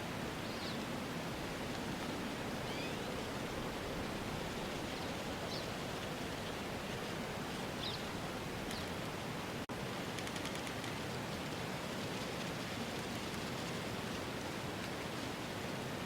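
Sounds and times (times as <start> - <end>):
rushing outdoor ambience: 0.0 - 16.0.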